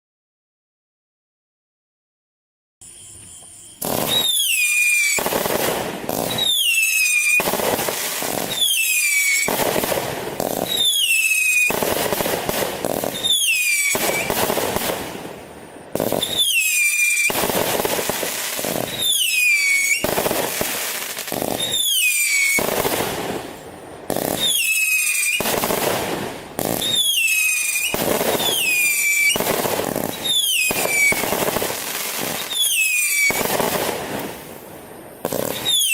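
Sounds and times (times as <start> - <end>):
firework falling whistle: 2.8 - 15.2, 16.0 - 34.6, 35.2 - 35.9
firework hissing crackle: 2.8 - 35.9.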